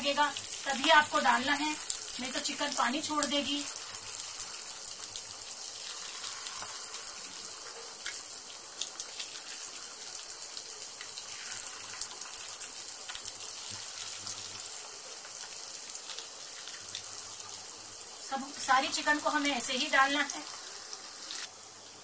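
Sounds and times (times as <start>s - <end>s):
chicken deep-frying in oil: 0.0s - 22.0s.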